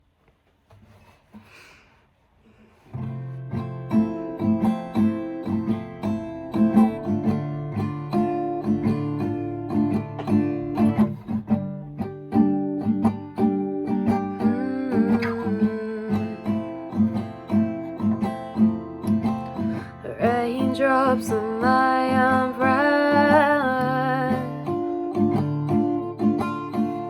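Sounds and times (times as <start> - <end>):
acoustic guitar picking: 2.9 - 27.0.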